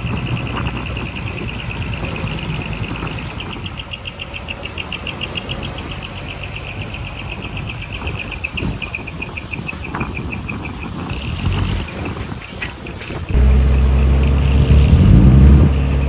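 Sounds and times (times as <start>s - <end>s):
bulldozer engine low rumble: 0.0s - 16.0s.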